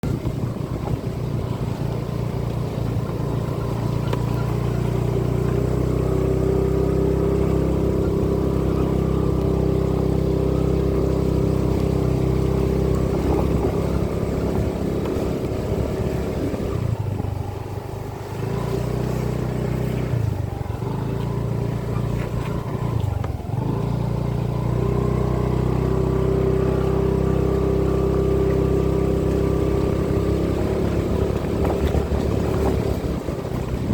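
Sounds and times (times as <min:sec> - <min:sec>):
engine droning: 0:00.0 - 0:33.9.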